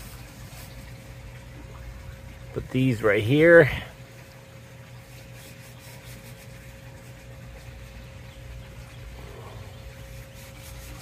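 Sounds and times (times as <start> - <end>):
low background hum: 0.0 - 11.0
thin constant tone: 0.0 - 11.0.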